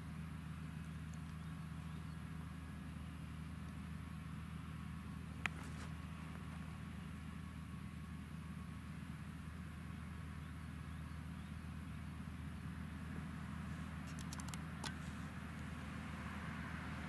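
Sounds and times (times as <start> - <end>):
tractor diesel engine humming: 0.0 - 17.0.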